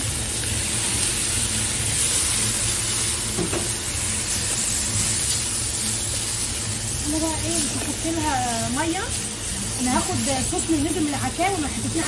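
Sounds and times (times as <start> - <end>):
food sizzling in a pot: 0.0 - 12.0
spatula stirring: 0.5 - 12.0.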